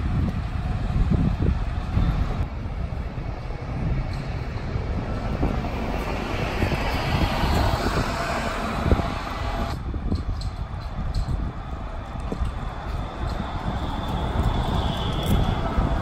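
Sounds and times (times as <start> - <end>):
street traffic rumble: 0.0 - 16.0
bus driving past: 0.1 - 16.0.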